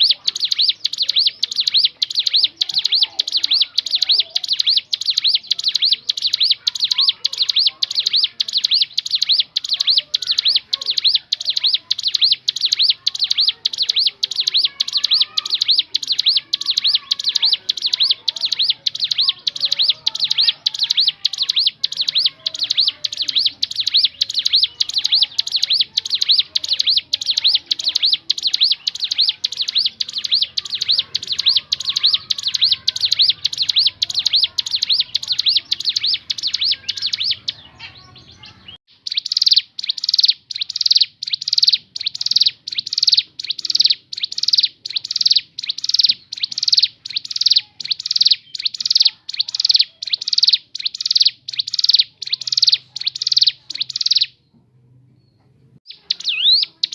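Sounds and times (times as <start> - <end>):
bird calling high-pitched notes: 0.0 - 54.4, 55.9 - 56.9.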